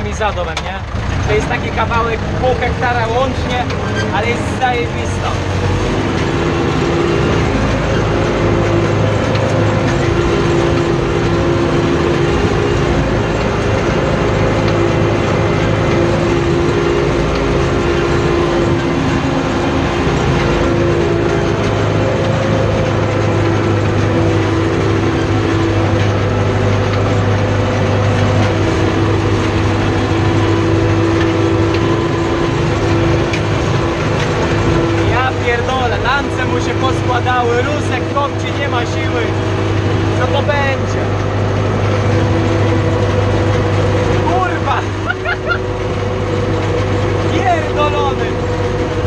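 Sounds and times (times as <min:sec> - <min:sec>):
tractor engine from inside cab: 0:00.0 - 0:49.0.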